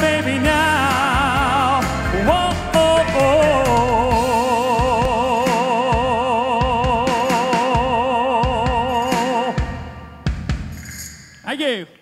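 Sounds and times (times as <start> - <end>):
man singing with vibrato: 0.0 - 10.0
pop backing track with drum beat: 0.0 - 11.0.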